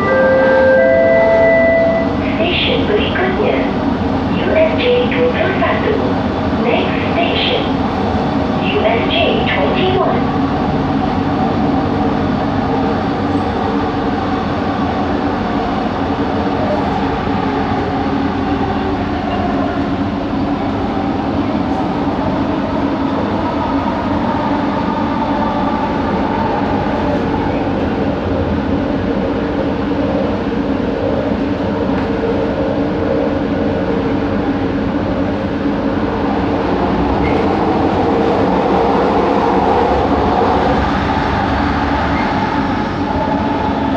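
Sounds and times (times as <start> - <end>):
train ride rumble: 0.0 - 43.9.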